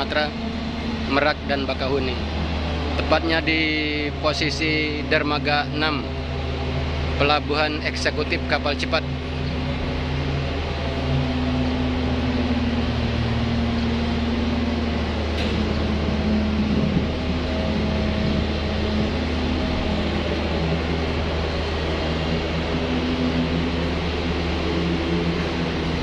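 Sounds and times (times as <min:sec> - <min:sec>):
machinery drone: 0:00.0 - 0:26.0.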